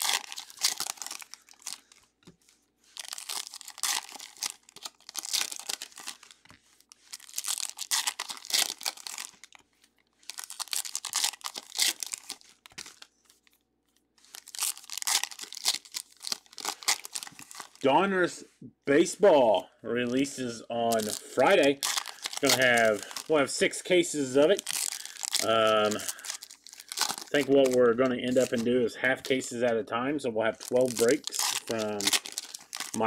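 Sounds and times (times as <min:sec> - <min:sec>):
foil wrappers tearing and crinkling: 0:00.0 - 0:02.2, 0:02.9 - 0:13.6, 0:14.2 - 0:17.9, 0:20.0 - 0:29.7, 0:30.5 - 0:33.0.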